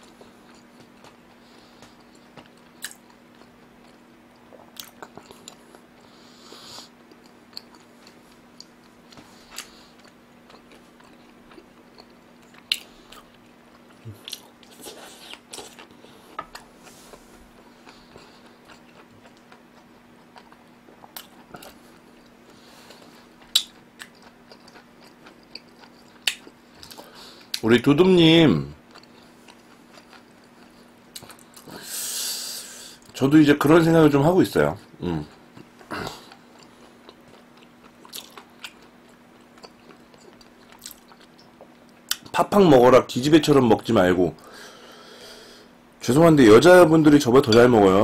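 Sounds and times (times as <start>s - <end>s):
person chewing food: 0.0s - 27.6s, 28.8s - 33.2s, 34.9s - 42.3s.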